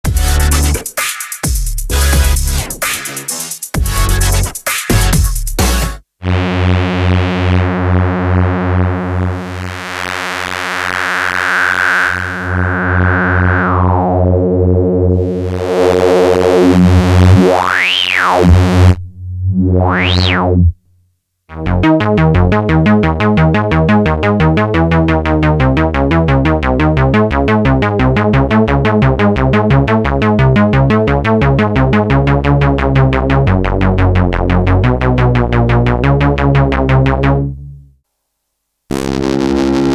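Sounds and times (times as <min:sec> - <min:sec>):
pulsing synthesizer sequence: 0:00.0 - 0:00.8, 0:01.8 - 0:06.0, 0:08.0 - 0:20.8, 0:21.5 - 0:37.8, 0:38.9 - 0:39.9
synthesizer low note with filter sweep: 0:05.7 - 0:20.8, 0:21.5 - 0:38.0, 0:38.9 - 0:39.9.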